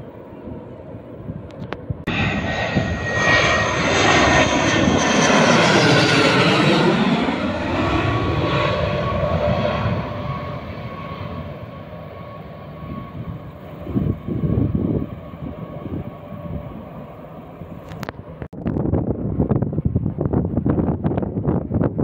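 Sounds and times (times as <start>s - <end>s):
jet passing low overhead: 0.0s - 22.0s
steady turbine whine: 0.0s - 22.0s.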